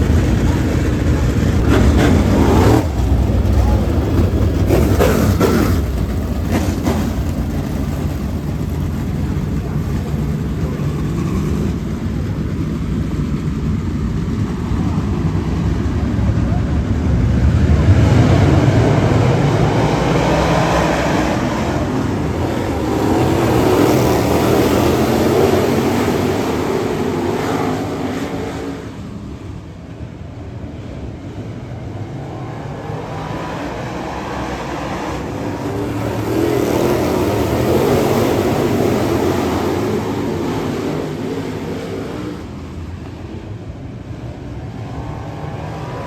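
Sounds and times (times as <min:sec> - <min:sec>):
race car engines passing: 0:00.0 - 0:46.0.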